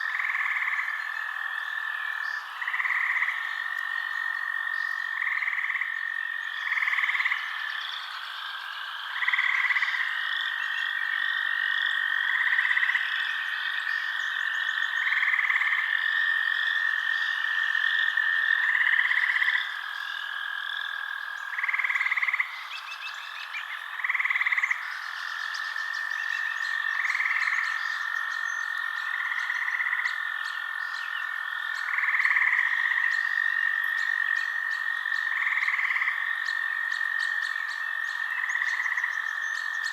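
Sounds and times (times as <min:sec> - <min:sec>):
frog calls: 0:00.0 - 0:39.9.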